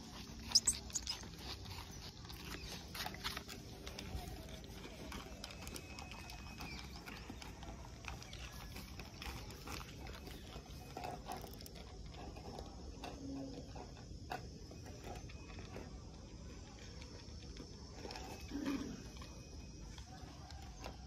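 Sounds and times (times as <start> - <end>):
dogs chewing and snuffling: 0.0 - 21.0.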